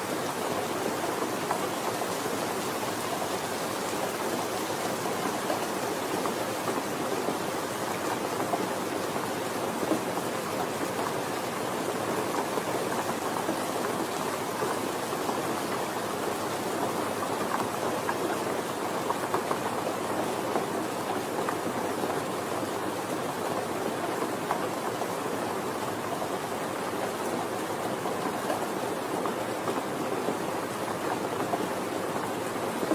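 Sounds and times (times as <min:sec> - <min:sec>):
soft rain falling: 0:00.0 - 0:32.9.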